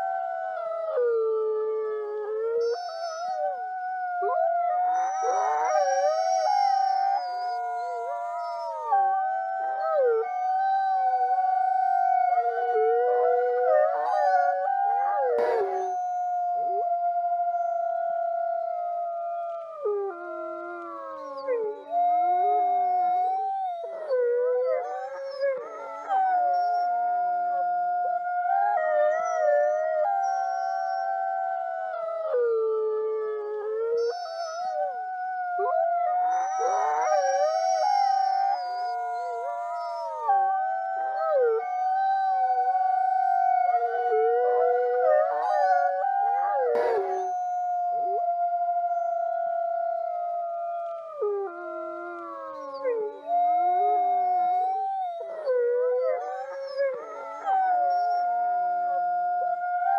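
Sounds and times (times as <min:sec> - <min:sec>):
wolves howling in chorus: 0:00.0 - 0:59.9.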